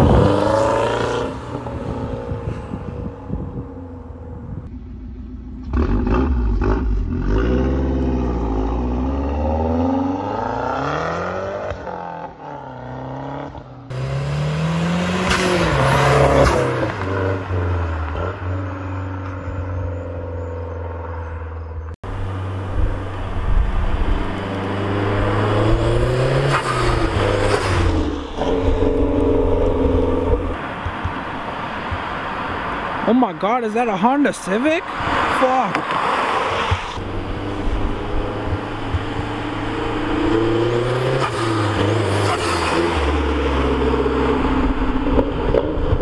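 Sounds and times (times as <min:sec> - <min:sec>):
car engine revving and accelerating: 0:00.0 - 0:03.5, 0:05.6 - 0:30.6, 0:34.8 - 0:46.0.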